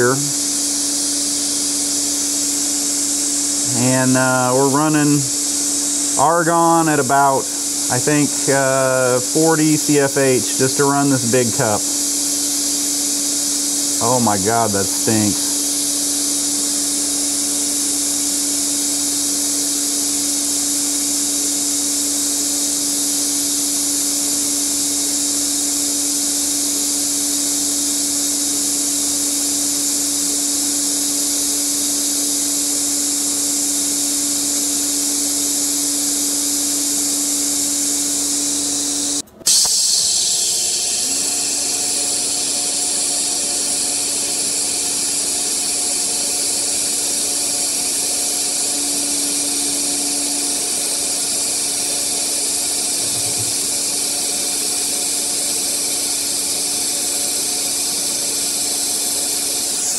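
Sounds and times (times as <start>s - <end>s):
welding arc hissing: 0.0s - 59.9s.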